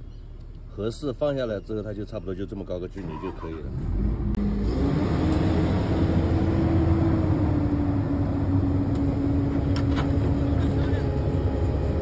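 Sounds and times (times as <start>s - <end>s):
continuous engine whine: 0.0s - 12.0s
diesel engine rumbling: 0.0s - 12.0s.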